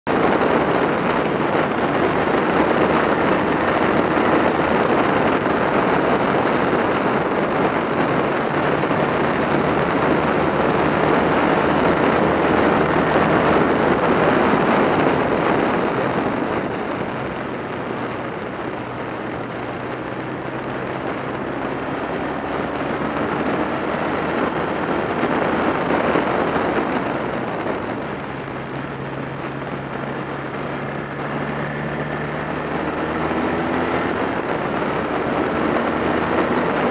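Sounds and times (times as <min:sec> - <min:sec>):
motorcycle engine running: 0:00.0 - 0:36.9
wind rush on microphone: 0:00.0 - 0:36.9.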